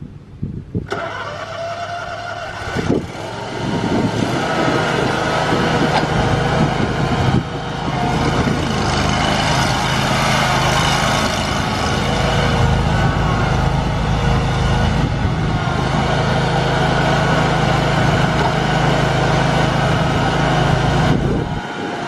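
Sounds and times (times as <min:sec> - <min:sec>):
mower engine running: 0:00.9 - 0:22.0.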